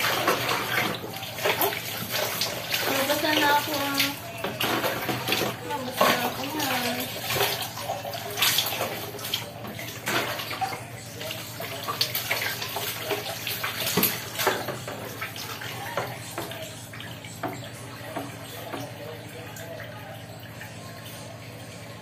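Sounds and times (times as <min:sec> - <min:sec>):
water pouring and splashing: 0:00.0 - 0:22.0.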